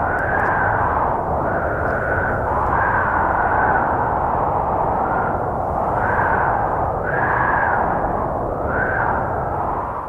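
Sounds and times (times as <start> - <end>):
howling wind: 0.0 - 10.0.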